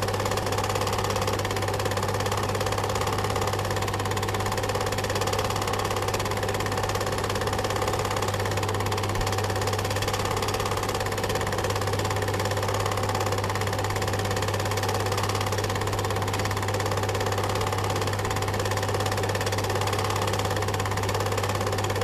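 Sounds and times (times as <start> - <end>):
film projector clatter: 0.0 - 22.0.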